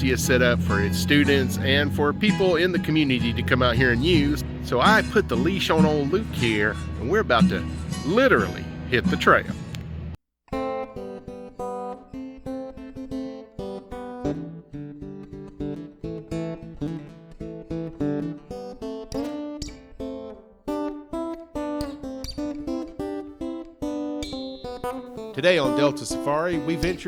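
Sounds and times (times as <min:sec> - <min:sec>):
acoustic guitar music: 0:00.0 - 0:27.0.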